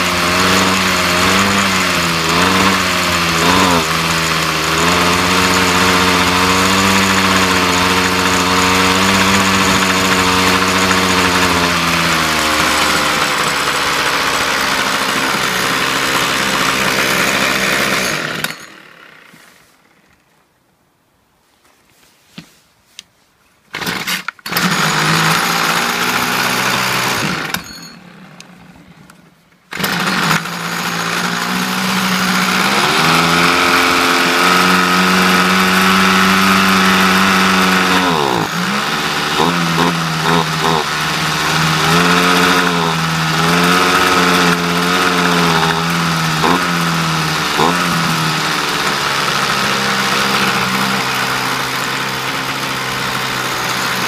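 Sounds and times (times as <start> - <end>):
starter cord pulls: 0.0 - 18.8, 23.7 - 54.0
strimmer engine running: 0.0 - 19.5, 23.7 - 54.0.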